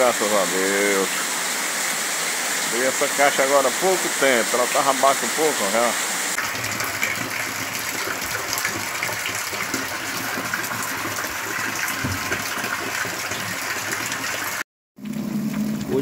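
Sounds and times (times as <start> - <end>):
rainwater pouring into plastic barrel: 0.0 - 16.0.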